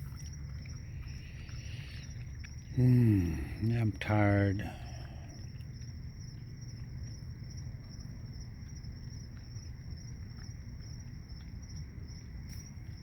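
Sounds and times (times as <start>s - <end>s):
low steady rumble: 0.0s - 13.0s
night insects trilling: 0.0s - 13.0s.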